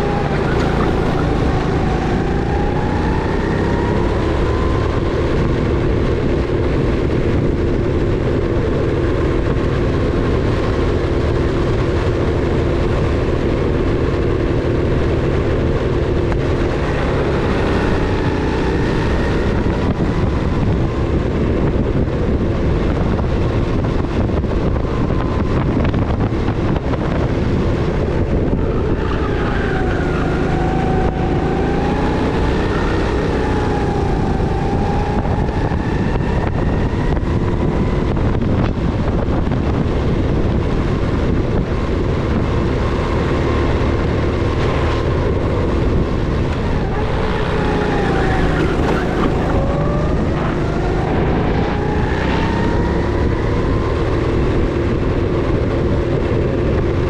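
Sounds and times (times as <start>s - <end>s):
go-kart engine revving: 0.0s - 39.0s, 39.7s - 57.0s.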